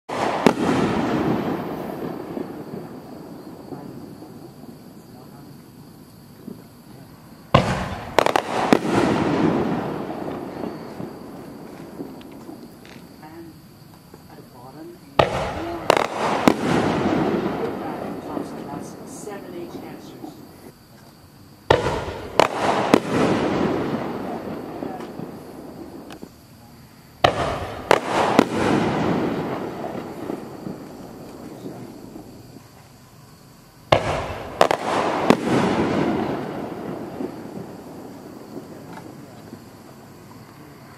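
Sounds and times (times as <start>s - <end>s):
sharp firework cracks: 0.1s - 5.0s, 6.4s - 13.2s, 15.2s - 20.0s, 21.6s - 26.4s, 27.2s - 33.0s, 33.8s - 40.9s
firework boom: 0.1s - 5.2s, 6.4s - 13.2s, 15.2s - 20.0s, 21.7s - 26.2s, 27.2s - 32.6s, 33.9s - 40.4s.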